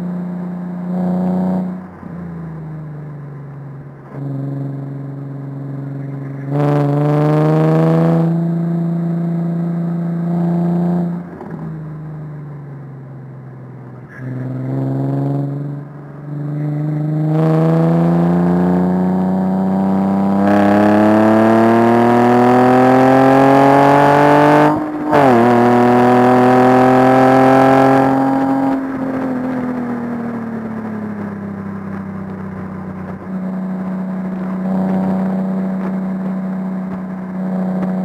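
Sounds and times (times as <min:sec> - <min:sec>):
car engine accelerating hard: 0:00.0 - 0:38.0.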